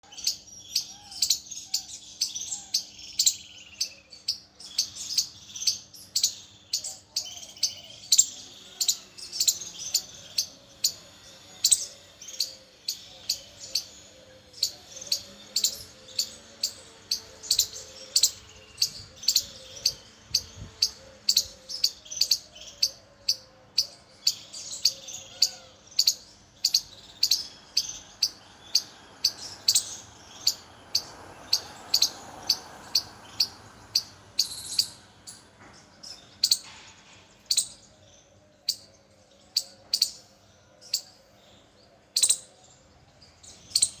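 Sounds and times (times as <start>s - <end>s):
squirrel chirping: 0.0s - 35.4s, 36.0s - 36.7s, 37.4s - 37.8s, 39.5s - 41.2s, 42.1s - 42.6s, 43.4s - 44.0s.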